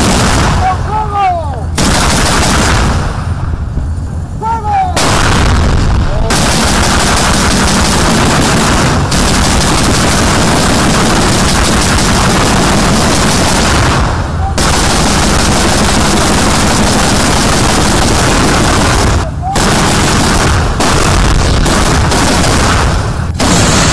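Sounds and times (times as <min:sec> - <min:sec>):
automatic gunfire: 0:00.0 - 0:00.8, 0:01.8 - 0:03.2, 0:05.0 - 0:23.9.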